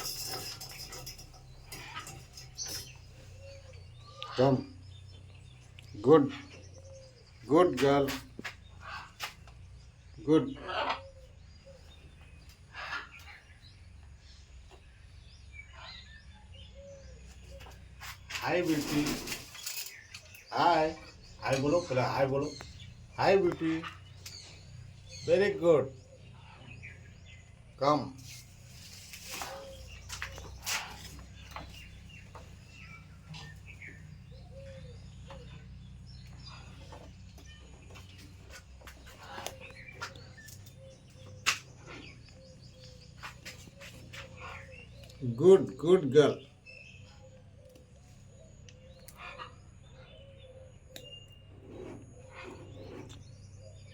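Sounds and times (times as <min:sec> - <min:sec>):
soft bird chirps: 0:00.0 - 0:53.9.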